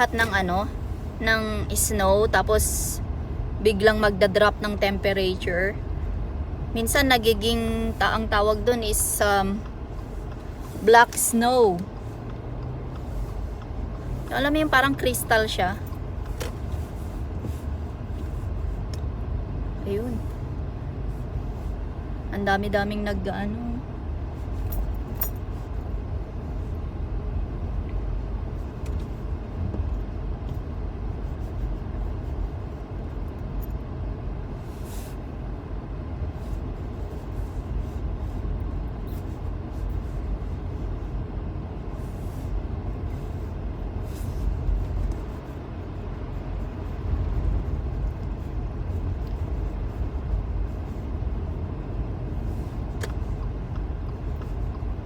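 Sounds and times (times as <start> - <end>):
car tyre and engine noise: 0.0 - 55.0.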